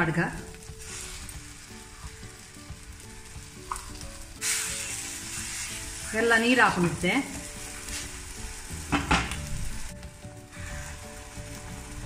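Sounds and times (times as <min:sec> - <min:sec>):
paste sizzling in a pan: 0:00.4 - 0:12.0.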